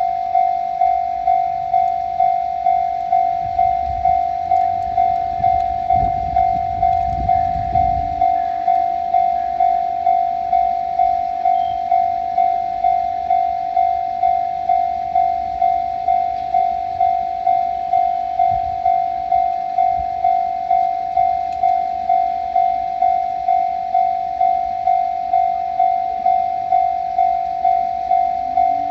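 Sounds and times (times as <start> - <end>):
railroad crossing bell ringing: 0.0 - 28.9.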